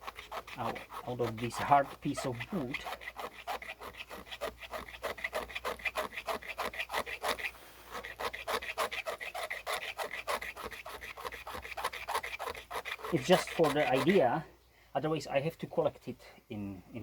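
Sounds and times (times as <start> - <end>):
blade scraping hard wood: 0.0 - 14.4.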